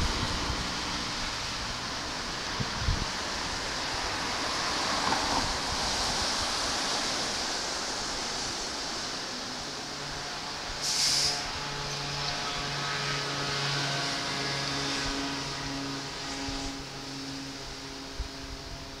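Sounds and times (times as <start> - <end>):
outdoor rushing wind noise: 0.0 - 19.0.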